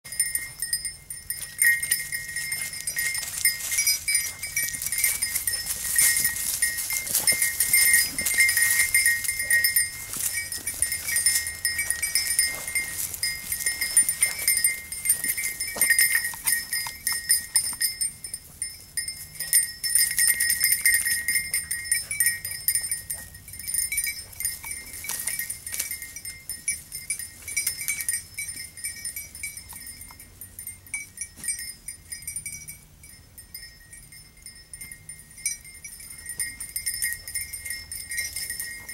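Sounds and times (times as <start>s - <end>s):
collar bell jingling: 0.0s - 38.9s.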